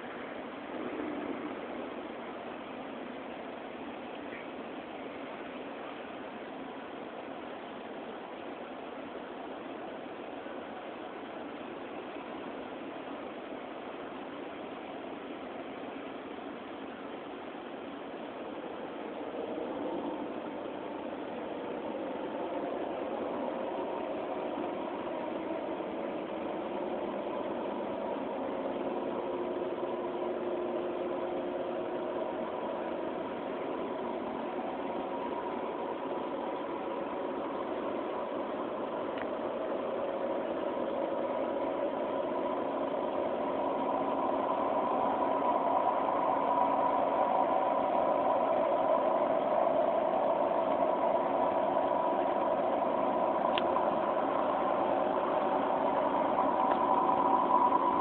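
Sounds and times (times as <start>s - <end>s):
engine hum: 0.0s - 58.0s.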